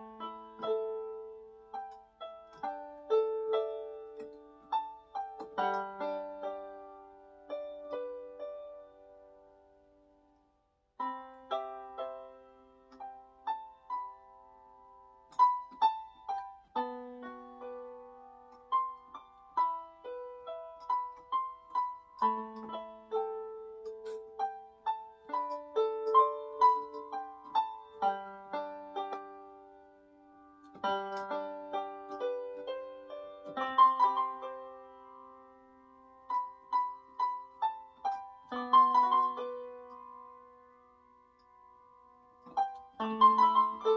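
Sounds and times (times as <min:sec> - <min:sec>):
electronic keyboard piano melody: 0:00.0 - 0:43.9.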